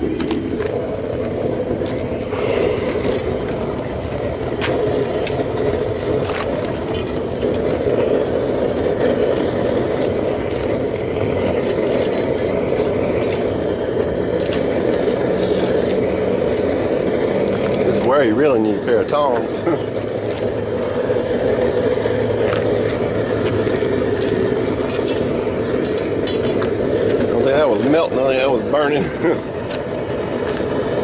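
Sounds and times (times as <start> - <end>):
furnace burner rushing rumble: 0.0 - 31.0.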